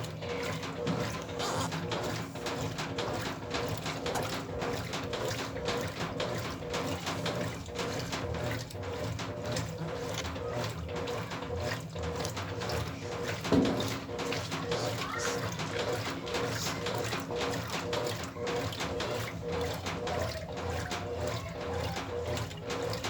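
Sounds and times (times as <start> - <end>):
washing machine motor hum: 0.0 - 23.0
water sloshing in drum: 0.0 - 23.0.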